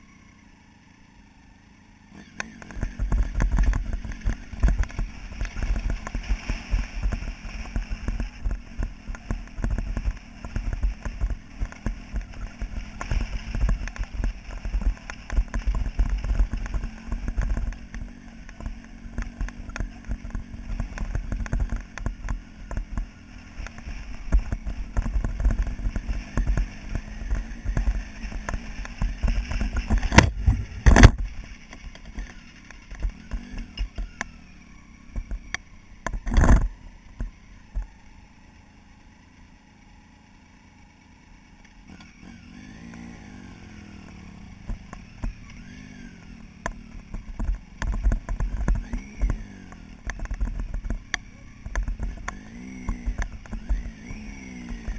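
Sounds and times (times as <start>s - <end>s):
motorcycle engine rumbling: 0.0s - 54.9s.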